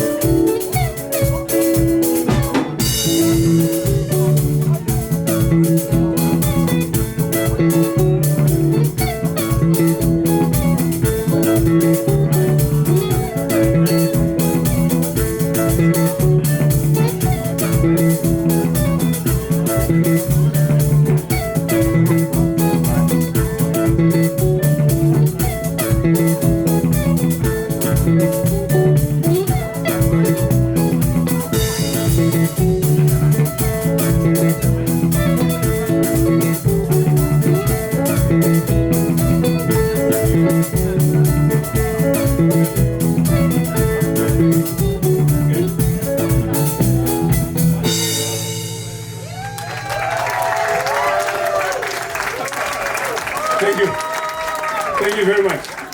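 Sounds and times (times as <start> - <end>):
picked electric guitar: 0.0 - 55.0
bass guitar: 0.0 - 55.3
drum kit beat: 0.0 - 55.9.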